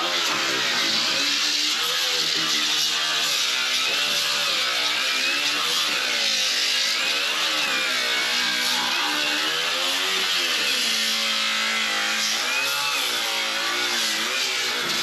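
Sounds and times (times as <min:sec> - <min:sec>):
angle grinder cutting: 0:00.0 - 0:15.0.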